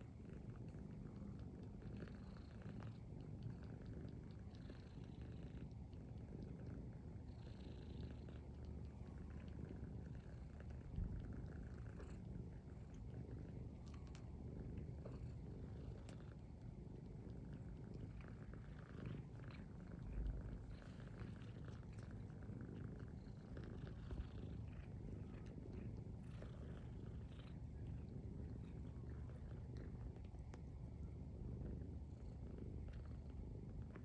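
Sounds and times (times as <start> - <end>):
cats purring: 0.0 - 34.0.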